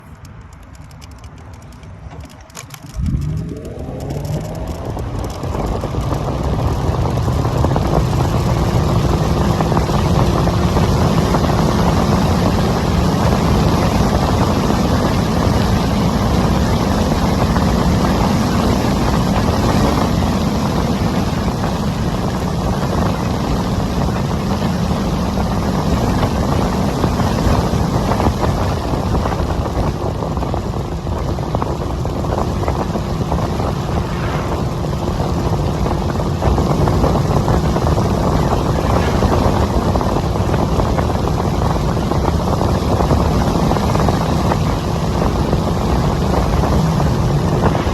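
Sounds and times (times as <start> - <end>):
road noise: 0.0 - 47.9
wind buffeting microphone: 1.8 - 47.9.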